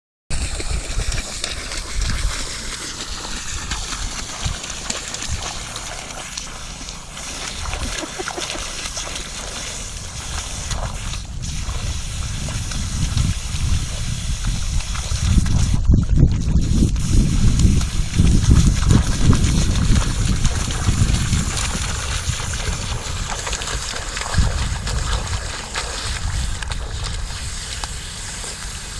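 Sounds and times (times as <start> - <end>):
water and mud splashing: 0.3 - 28.9
dog digging in mud: 0.6 - 28.9.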